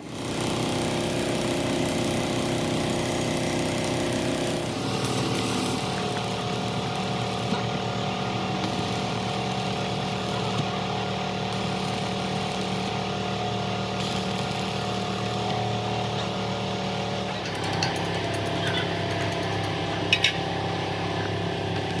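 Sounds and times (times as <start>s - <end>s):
machine motor humming: 0.2s - 22.0s.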